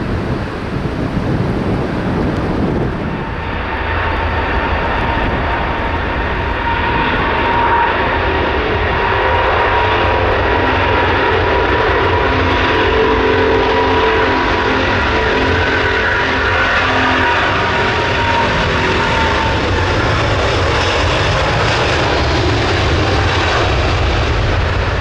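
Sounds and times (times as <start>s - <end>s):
climbing jet rumble: 0.0s - 25.0s
jet engines whining: 0.0s - 25.0s.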